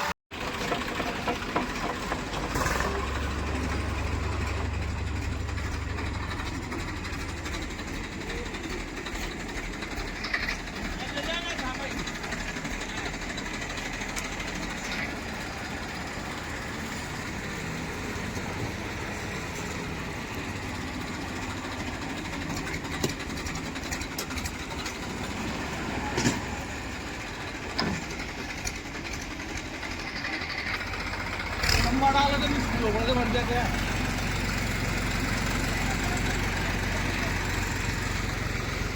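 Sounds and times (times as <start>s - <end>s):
diesel machinery running: 0.0s - 38.9s.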